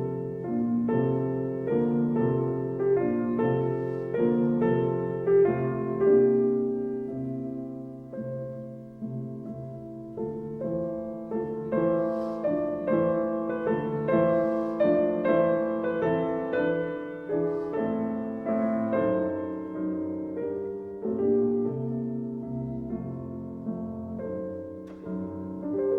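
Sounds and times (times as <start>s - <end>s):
slow gentle solo piano: 0.0s - 25.9s.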